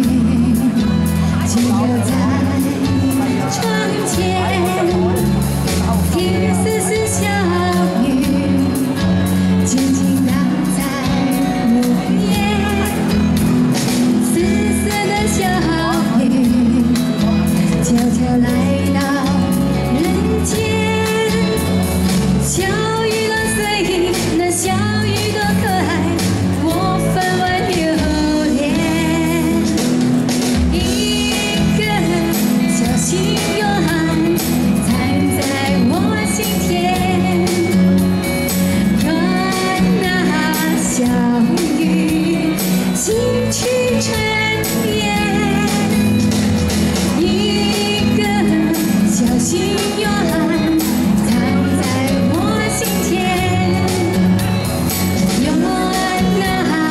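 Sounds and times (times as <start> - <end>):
instrumental accompaniment: 0.0 - 56.9
woman singing pop song: 0.0 - 56.9.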